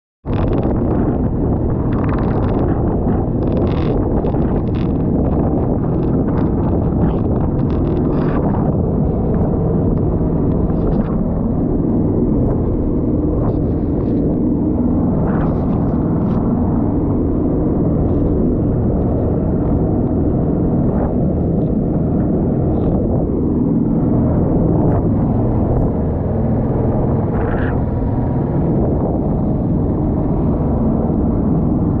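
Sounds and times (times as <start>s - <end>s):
boat motor running: 0.2s - 32.0s
water splashing against hull: 0.2s - 32.0s
wind buffeting microphone: 0.2s - 32.0s.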